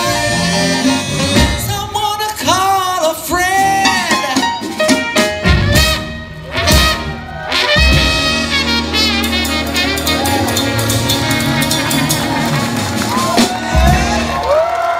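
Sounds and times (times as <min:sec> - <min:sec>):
live band with horns: 0:00.0 - 0:14.9.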